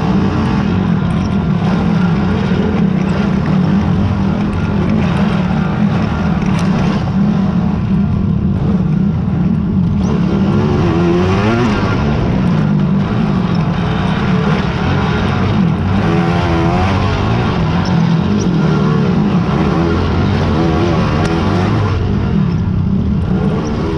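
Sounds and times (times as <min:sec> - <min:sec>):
quad engines revving: 0:00.0 - 0:23.9.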